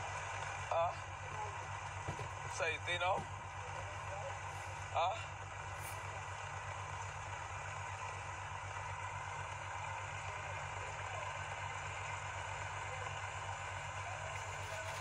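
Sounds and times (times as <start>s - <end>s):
motor engine idling: 0.0s - 15.0s.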